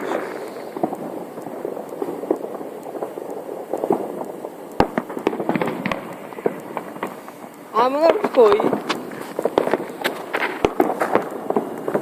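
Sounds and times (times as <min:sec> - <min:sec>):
fireworks crackling: 0:00.0 - 0:12.0
fireworks sharp bangs: 0:00.0 - 0:12.0.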